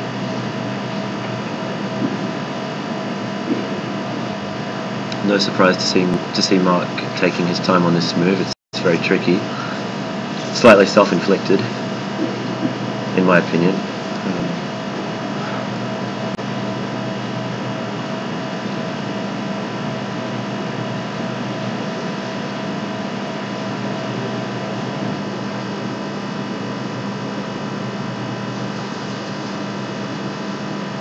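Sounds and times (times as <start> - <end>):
room hum and hiss: 0.0 - 31.0.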